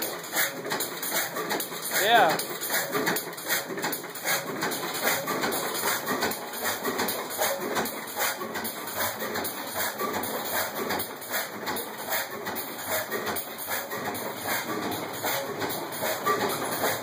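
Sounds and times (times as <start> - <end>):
gas engine knocking and clanking: 0.0 - 17.0.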